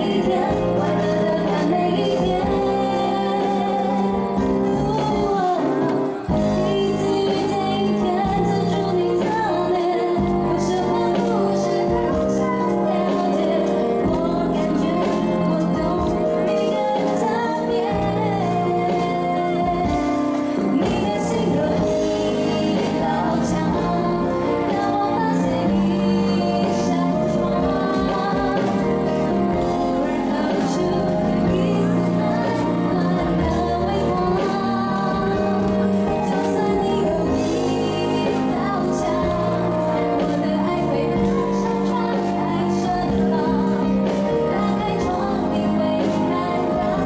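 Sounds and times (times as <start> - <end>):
band playing with steady beat: 0.0 - 47.0
woman singing into a microphone: 0.0 - 47.0.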